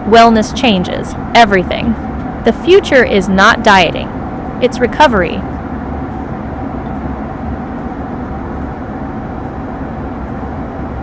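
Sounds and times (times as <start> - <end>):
low rumbling noise: 0.0 - 9.9
faint constant hum: 0.0 - 11.0.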